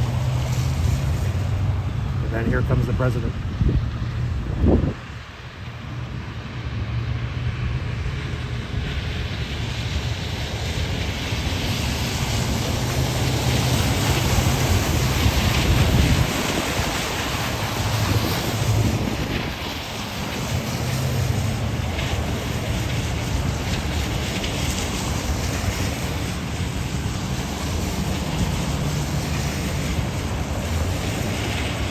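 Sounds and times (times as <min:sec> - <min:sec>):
tyres hissing on wet road: 0:00.0 - 0:31.9
wind rumbling on microphone: 0:00.0 - 0:31.9.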